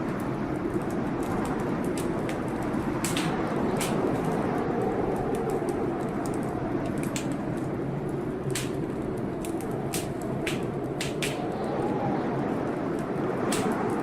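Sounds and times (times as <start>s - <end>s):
storm rushing noise: 0.0s - 14.0s
wood fire crackling: 0.0s - 14.0s.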